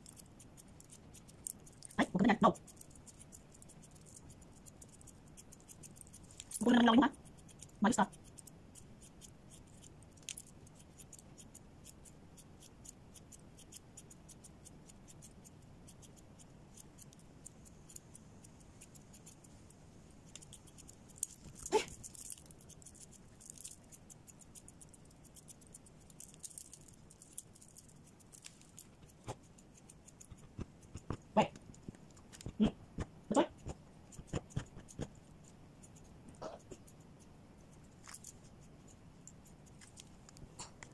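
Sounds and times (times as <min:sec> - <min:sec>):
scissors snipping fur: 0:00.0 - 0:37.0.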